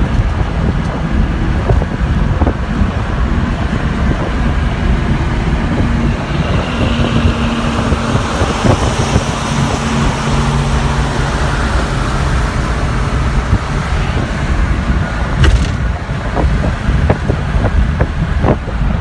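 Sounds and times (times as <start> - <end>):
low engine hum: 0.0 - 19.0
road and wind rumble in car: 0.0 - 19.0.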